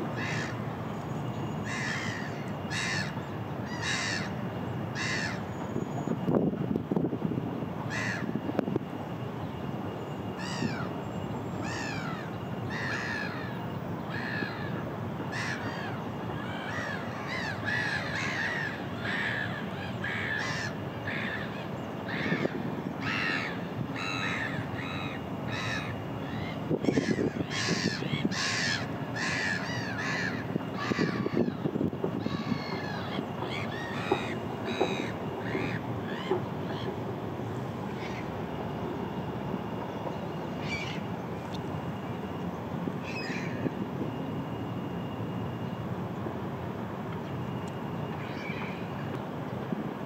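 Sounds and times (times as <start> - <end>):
steady background hiss: 0.0 - 50.0
gulls calling: 0.1 - 6.3, 7.8 - 8.5, 9.6 - 45.7, 47.3 - 49.2.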